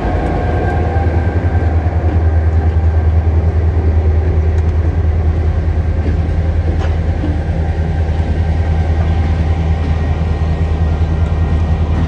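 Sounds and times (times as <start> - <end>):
diesel locomotives passing: 0.0 - 12.0.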